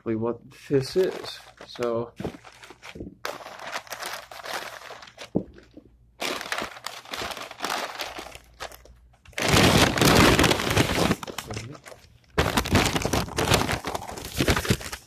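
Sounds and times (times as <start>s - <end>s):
paper crinkling and tearing: 0.9s - 15.0s.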